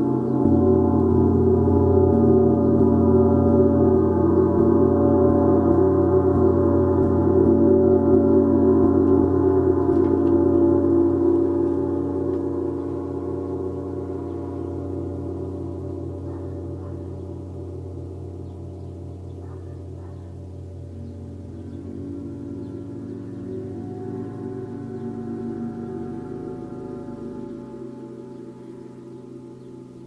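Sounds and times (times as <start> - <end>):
gong ringing: 0.0 - 30.0.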